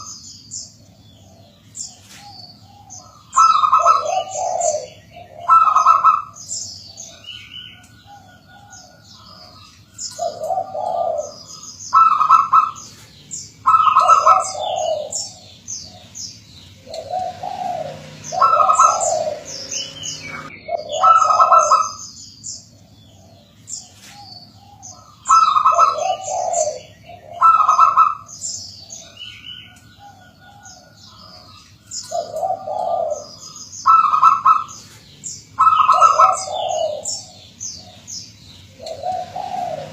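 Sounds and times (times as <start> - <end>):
dove cooing: 0.0 - 22.1, 22.7 - 39.9
small birds chirping: 0.0 - 39.9.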